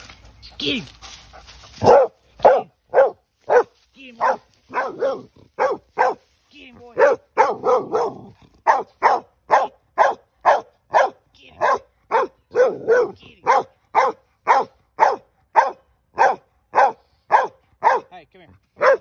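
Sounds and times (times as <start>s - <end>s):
dog barking: 1.8s - 6.2s, 7.0s - 18.1s, 18.8s - 19.0s.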